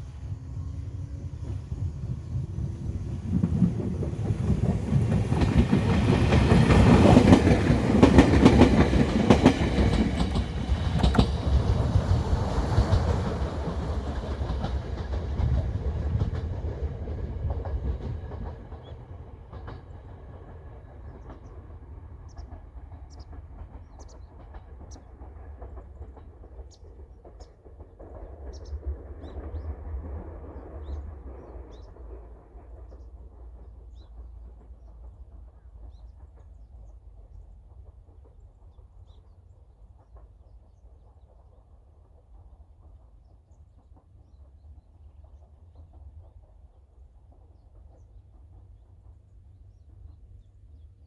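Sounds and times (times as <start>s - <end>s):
train wheels clicking over rail joints: 0.0s - 51.0s.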